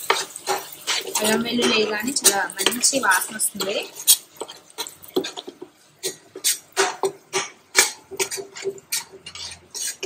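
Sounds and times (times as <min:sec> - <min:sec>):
metal spoon scraping a pot: 0:00.0 - 0:10.0
paste frying in oil: 0:00.0 - 0:10.0.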